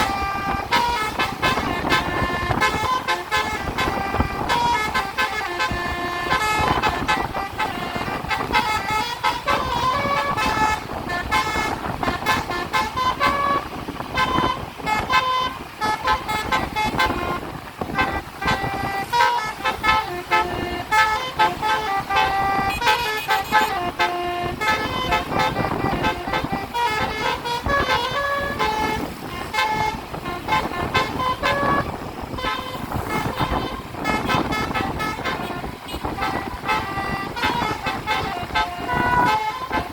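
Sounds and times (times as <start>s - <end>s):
low road noise rumble: 0.0s - 39.9s
musical bus horn melody: 0.0s - 39.9s.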